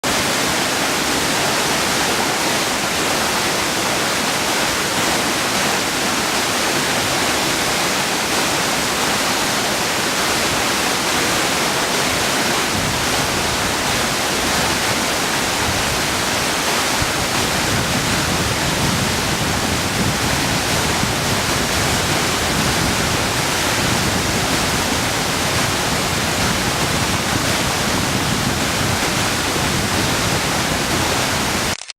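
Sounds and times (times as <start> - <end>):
waterfall rushing: 0.0 - 31.8.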